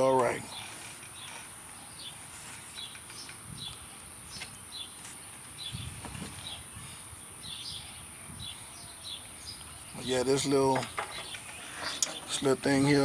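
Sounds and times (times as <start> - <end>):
small bird chirping: 0.5 - 13.0.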